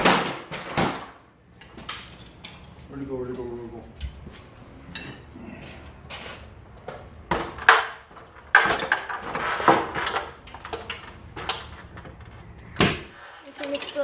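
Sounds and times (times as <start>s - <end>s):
metal tools clinking and clattering: 0.5s - 12.6s.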